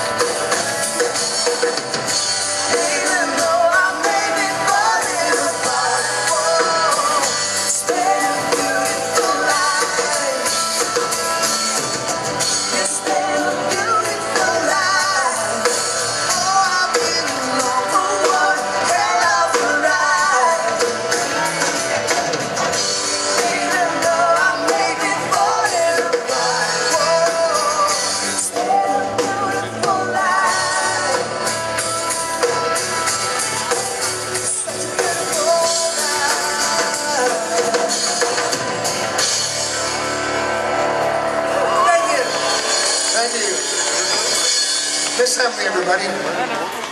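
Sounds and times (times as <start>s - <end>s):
lead singer singing: 0.0s - 39.2s
bass guitar: 0.0s - 46.9s
drum kit: 0.0s - 46.9s
electric guitars: 0.0s - 46.9s.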